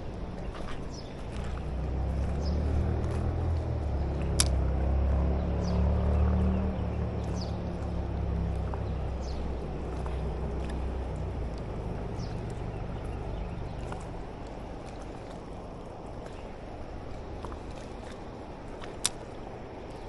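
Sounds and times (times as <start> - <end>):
low rumble: 0.0 - 19.6
creek rushing: 0.0 - 20.0.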